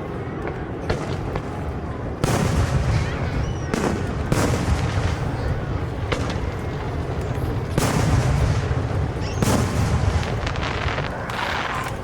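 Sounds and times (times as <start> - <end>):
rumble and crackle of fireworks: 0.0 - 12.0
fireworks booming: 0.8 - 12.0.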